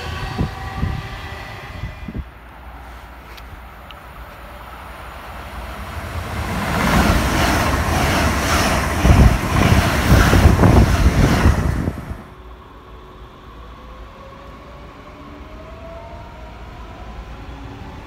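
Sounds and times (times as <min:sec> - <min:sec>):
high-speed train passing: 0:00.0 - 0:18.0.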